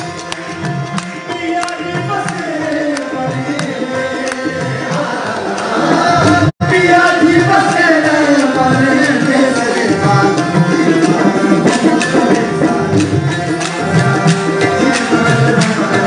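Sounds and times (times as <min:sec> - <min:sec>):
hand drum rhythm: 0:00.0 - 0:16.0
sustained harmonium: 0:00.0 - 0:16.0
man singing sliding vocal line: 0:01.2 - 0:16.0.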